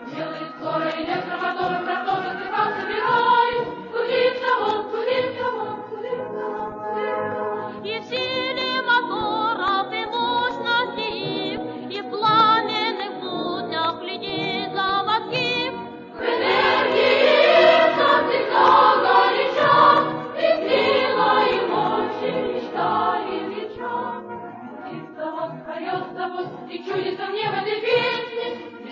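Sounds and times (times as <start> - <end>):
choir singing with vibrato: 0.0 - 11.9, 16.0 - 28.9.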